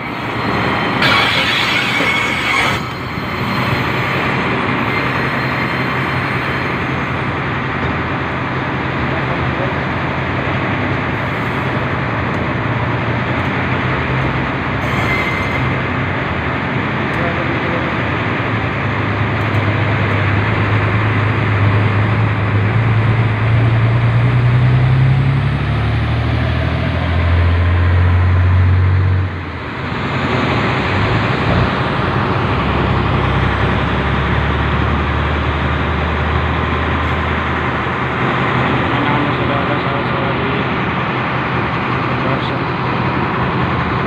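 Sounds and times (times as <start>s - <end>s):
locomotive engine humming: 0.0s - 44.0s
train rolling along track: 0.0s - 44.0s.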